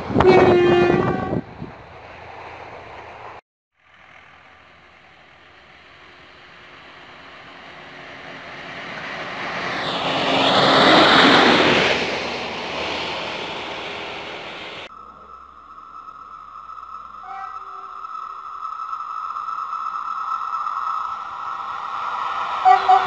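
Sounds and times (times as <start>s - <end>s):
motor trolley passing on rails: 0.0s - 23.0s.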